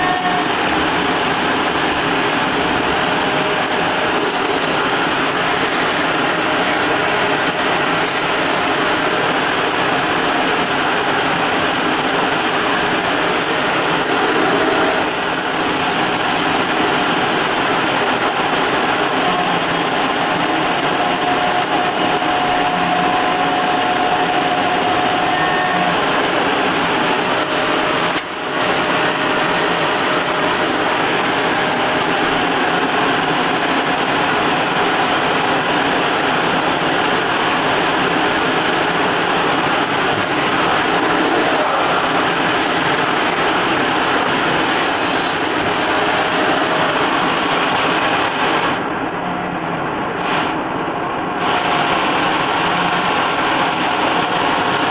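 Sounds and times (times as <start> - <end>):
router milling aluminium: 0.0 - 54.9.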